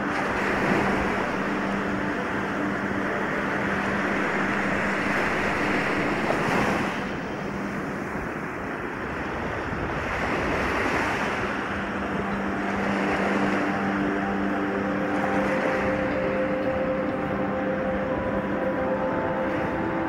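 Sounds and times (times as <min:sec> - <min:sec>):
surf washing up a sandy beach: 0:00.0 - 0:20.0.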